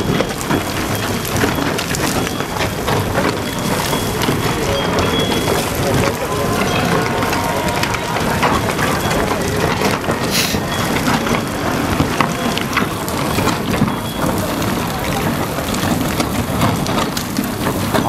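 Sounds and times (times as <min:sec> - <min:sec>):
murmur of crowd: 0:00.0 - 0:18.0
water jet spraying: 0:00.6 - 0:18.0.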